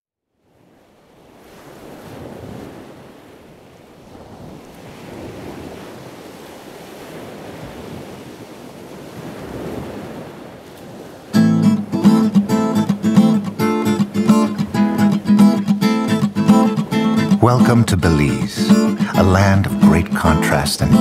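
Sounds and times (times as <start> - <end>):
wind: 0.2 - 20.2
ocean waves washing in: 0.4 - 21.0.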